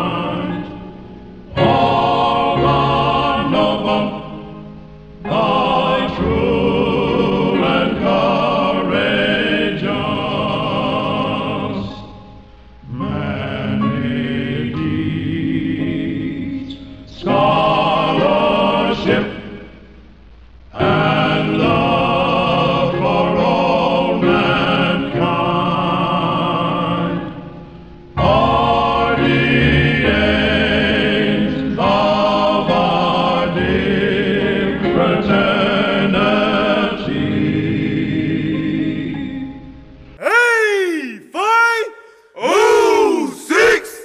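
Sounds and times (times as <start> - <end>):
choir-like singing with music: 0.0 - 44.0.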